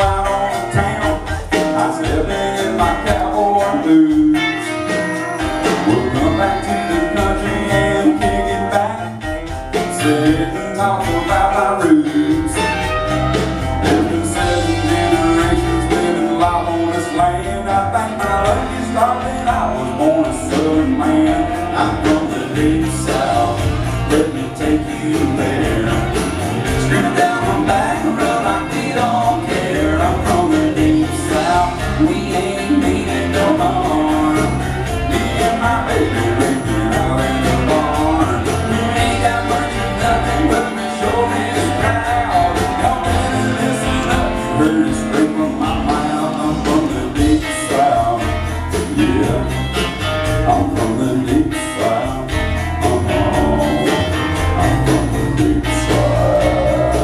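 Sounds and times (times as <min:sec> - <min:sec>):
live country band playing: 0:00.0 - 0:57.0.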